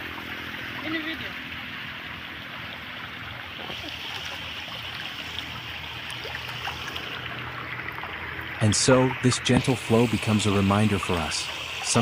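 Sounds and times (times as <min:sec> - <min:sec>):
faint water trickling: 0:00.0 - 0:12.0
stream of water running: 0:00.0 - 0:12.0.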